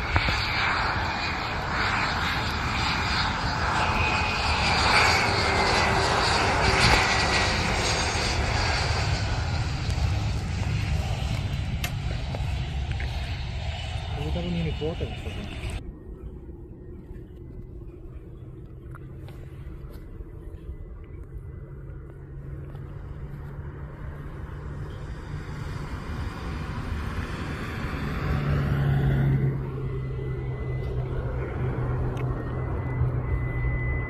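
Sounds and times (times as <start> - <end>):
jet airliner engine rumble: 0.0 - 34.0.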